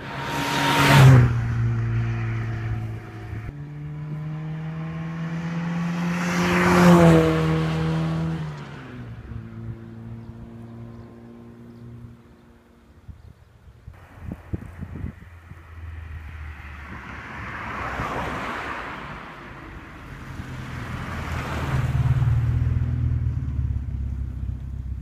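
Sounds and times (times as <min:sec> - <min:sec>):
car engine passing at speed: 0:00.0 - 0:12.7, 0:14.2 - 0:25.0.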